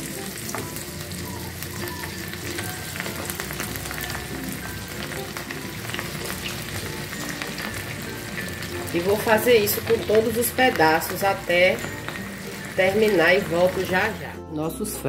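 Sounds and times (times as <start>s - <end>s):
chicken deep-frying in oil: 0.0s - 14.4s.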